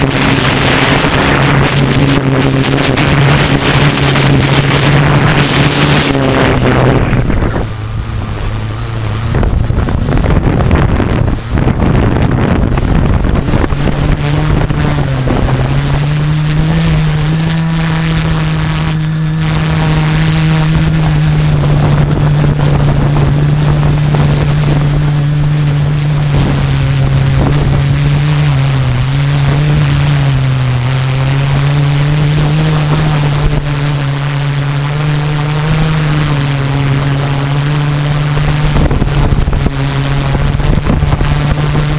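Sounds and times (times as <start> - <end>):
drone propeller hum: 0.0 - 41.9
wind rushing over microphone: 0.0 - 41.9.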